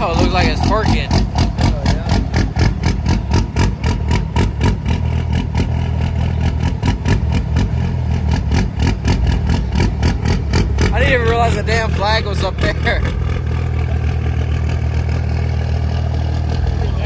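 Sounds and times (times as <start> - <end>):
engine clatter: 0.0 - 17.0
vehicle engine rumbling: 0.0 - 17.0.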